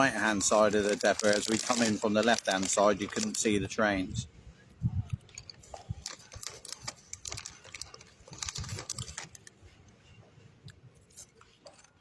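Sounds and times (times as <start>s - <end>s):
small clicks and rustles: 0.2s - 3.4s, 5.1s - 12.0s.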